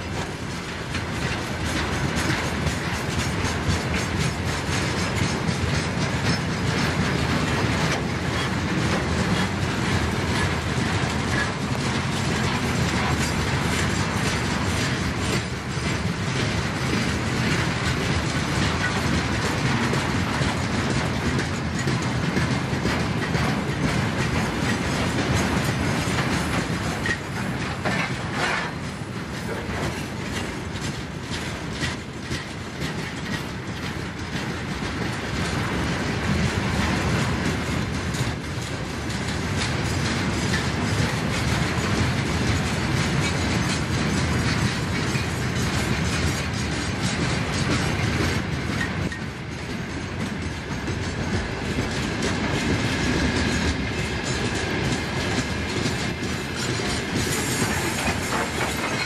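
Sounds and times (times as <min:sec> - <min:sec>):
freight train rumbling past: 0:00.0 - 0:59.0
wheels clacking over rail joints: 0:00.0 - 0:59.0.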